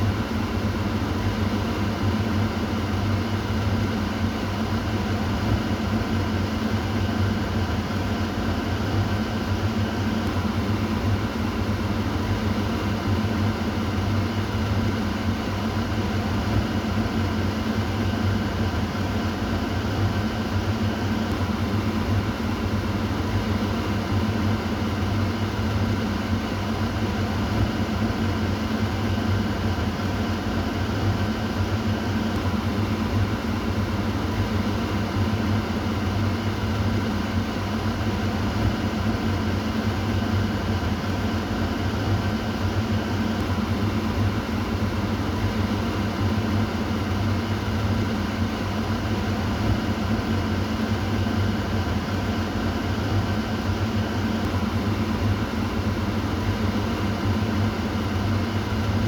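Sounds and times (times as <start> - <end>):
exhaust fan motor hum: 0.0 - 59.0.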